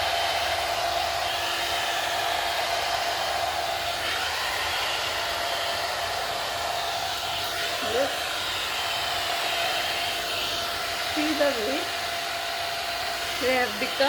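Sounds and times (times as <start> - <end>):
hot-air brush whining: 0.0 - 14.0.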